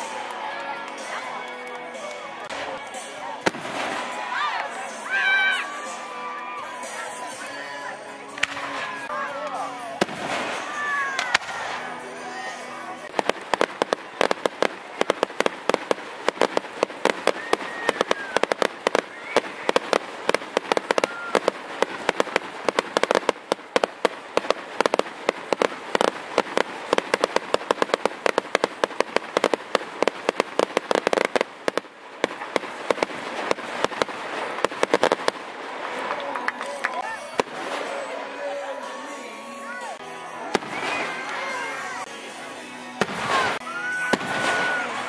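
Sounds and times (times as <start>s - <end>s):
fireworks cracking: 1.7s - 4.9s, 8.3s - 39.0s, 40.5s - 42.1s, 43.0s - 45.0s.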